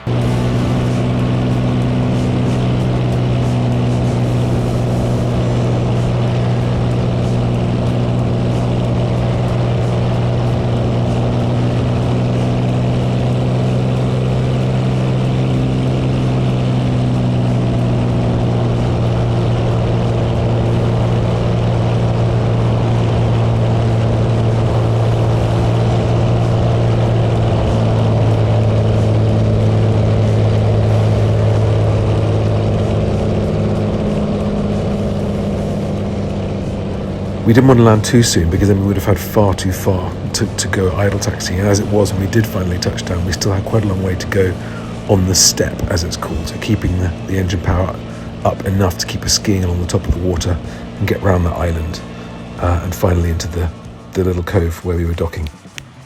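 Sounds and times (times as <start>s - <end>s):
plane engine and propeller drone: 0.0s - 56.0s.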